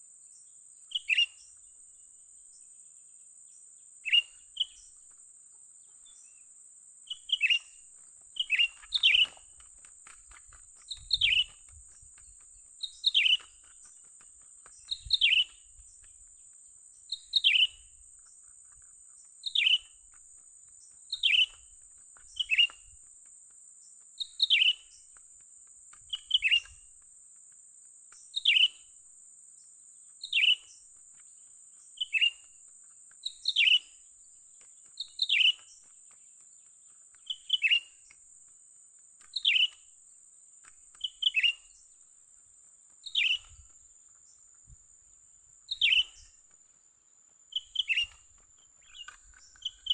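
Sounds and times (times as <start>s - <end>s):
bird chirping: 0.3s - 2.8s, 3.4s - 40.0s, 40.6s - 49.9s.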